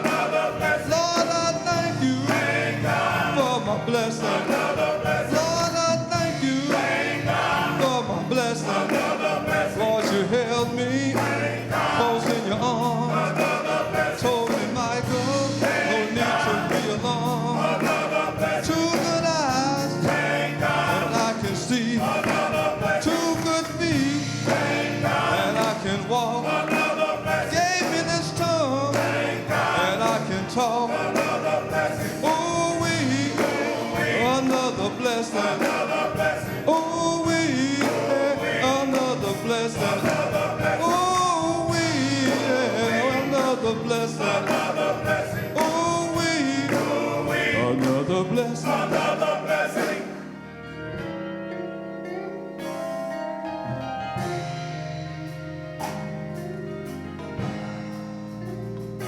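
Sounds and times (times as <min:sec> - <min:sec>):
gospel singing with live band: 0:00.0 - 0:59.0.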